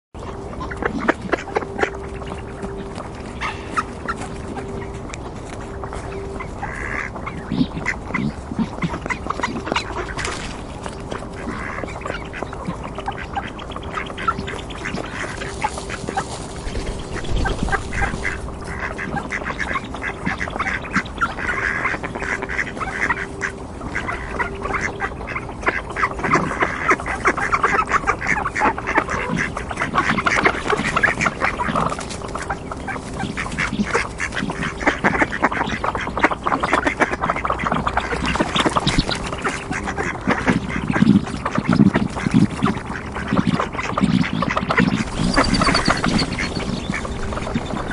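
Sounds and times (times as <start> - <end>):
ducks quacking: 0.2 - 47.9.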